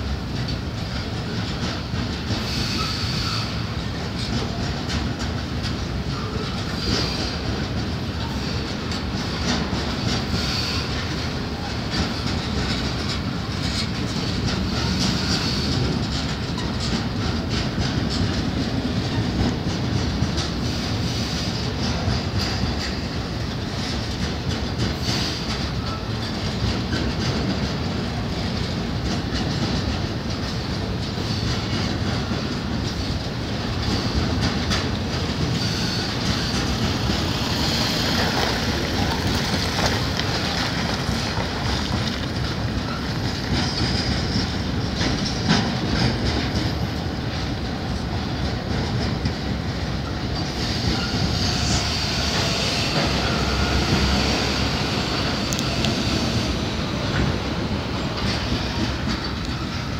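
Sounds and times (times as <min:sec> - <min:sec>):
steel wheels rumbling on rail: 0:00.0 - 0:59.9
wheels clacking over rail joints: 0:00.0 - 0:59.9.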